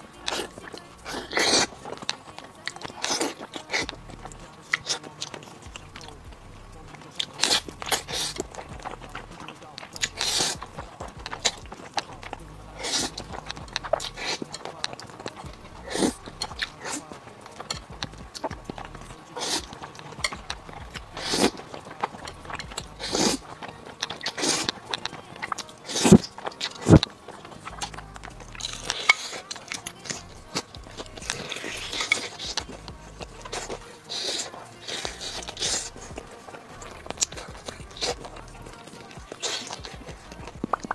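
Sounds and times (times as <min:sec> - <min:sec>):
biting meat off bone: 0:00.0 - 0:40.9
noodles slurped: 0:00.0 - 0:40.9
wet chewing: 0:00.0 - 0:40.9.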